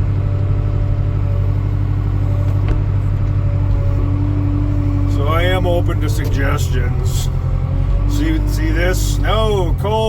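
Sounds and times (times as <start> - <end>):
skid steer engine running: 0.0 - 10.0.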